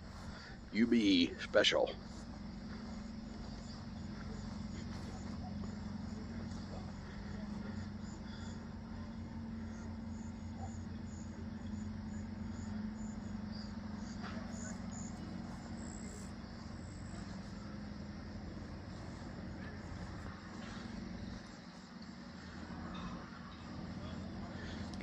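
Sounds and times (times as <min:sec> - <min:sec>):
engine running with low hum: 0:00.0 - 0:25.0
insects chirping faintly: 0:00.0 - 0:25.0.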